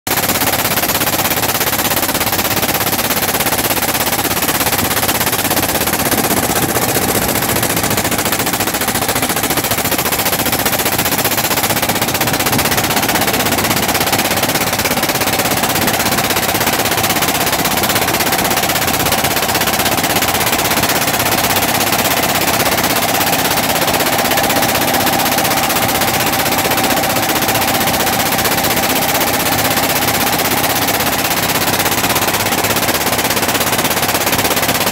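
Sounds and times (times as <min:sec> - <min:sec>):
boat engine clattering: 0:00.1 - 0:34.9.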